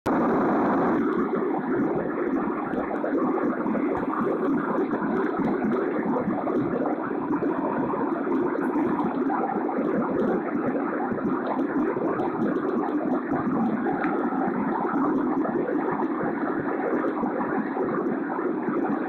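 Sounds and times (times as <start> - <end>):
steady rushing noise: 0.1 - 19.0.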